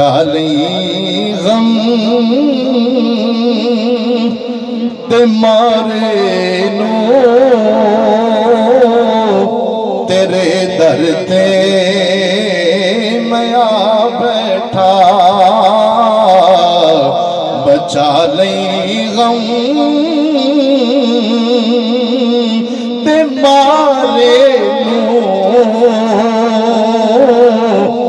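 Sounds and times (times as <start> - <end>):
man singing into microphone: 0.0 - 28.0.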